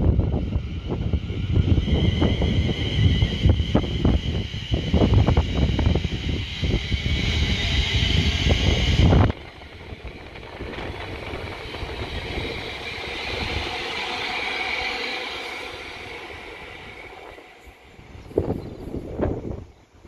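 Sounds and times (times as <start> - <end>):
passing train: 0.0 - 20.0
rail hiss and hum: 0.0 - 20.0
wind buffeting microphone: 0.0 - 20.0.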